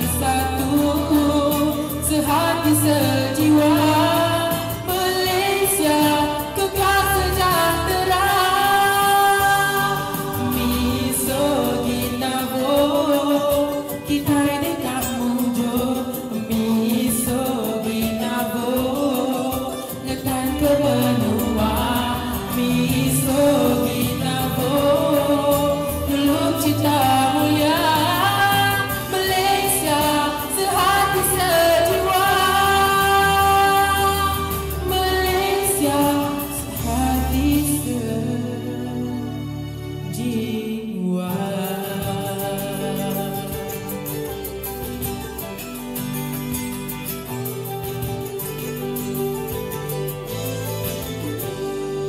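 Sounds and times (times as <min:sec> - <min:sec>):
backing track: 0:00.0 - 0:52.0
song with singing voices: 0:00.0 - 0:52.0.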